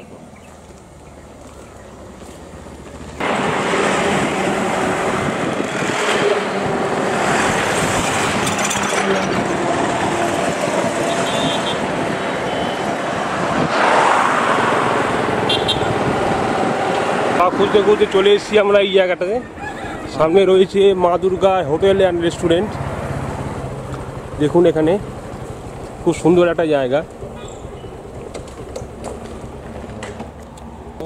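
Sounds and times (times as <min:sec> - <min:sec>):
motorcycle wind and engine noise: 0:00.0 - 0:31.0
passing traffic: 0:00.0 - 0:31.0.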